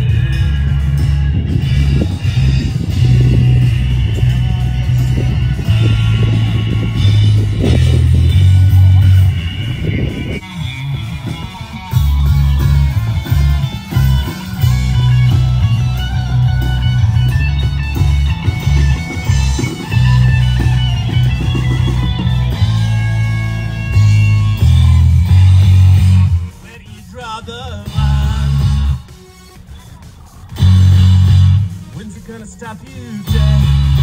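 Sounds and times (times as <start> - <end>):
bass guitar: 0.0 - 34.0
drums: 0.0 - 34.0
electric guitar: 0.0 - 34.0.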